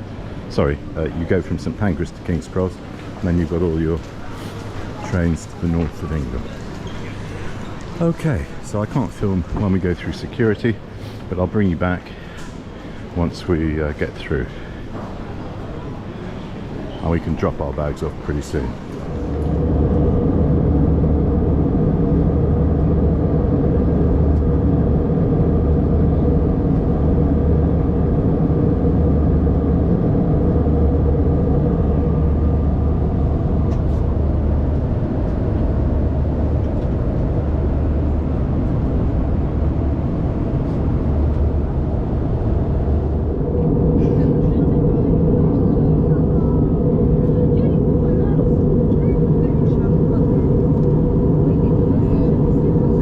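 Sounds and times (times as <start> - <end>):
jet engine cabin drone: 0.0 - 53.0.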